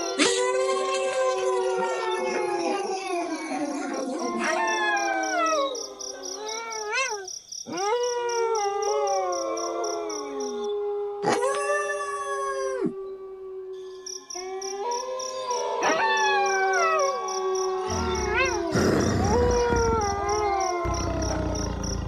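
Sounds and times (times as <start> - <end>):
wolves howling: 0.0 - 22.0.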